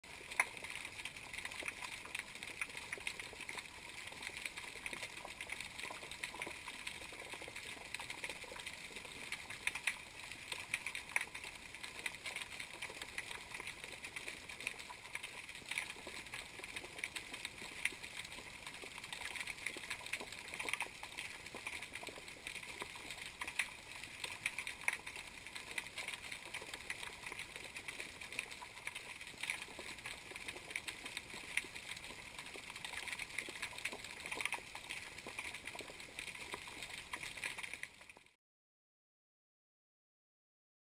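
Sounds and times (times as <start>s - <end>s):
crackle of small underwater clicks: 0.0s - 38.4s.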